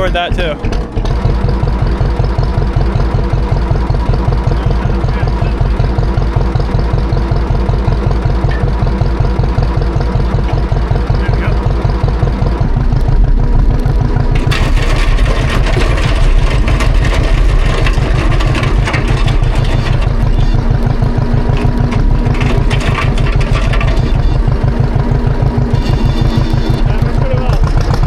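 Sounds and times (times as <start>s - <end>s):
two-cylinder tractor engine running: 0.0s - 28.0s.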